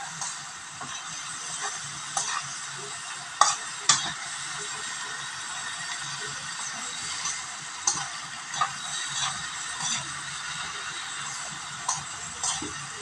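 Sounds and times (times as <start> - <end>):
spatula scraping against pan: 0.0 - 2.6, 3.4 - 4.2, 5.9 - 13.0
vegetables sizzling in a pan: 0.0 - 13.0.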